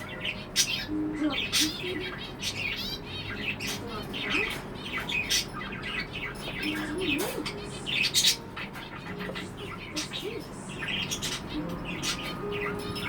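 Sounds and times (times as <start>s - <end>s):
budgerigar chirping: 0.0s - 13.0s.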